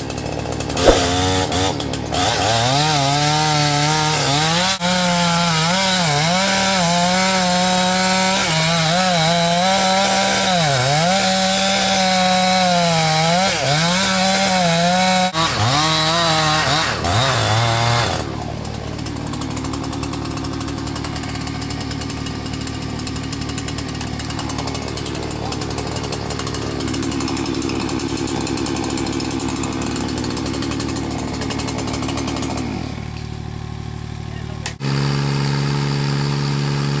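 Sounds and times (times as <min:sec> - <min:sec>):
chainsaw cutting tree trunk: 0:00.0 - 0:37.0.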